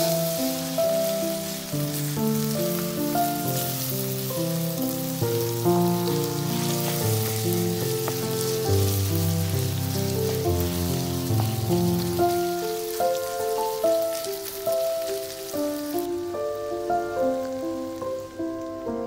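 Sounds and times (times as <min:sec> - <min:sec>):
background music melody: 0:00.0 - 0:19.0
meat and onions sizzling in pan: 0:00.0 - 0:19.0.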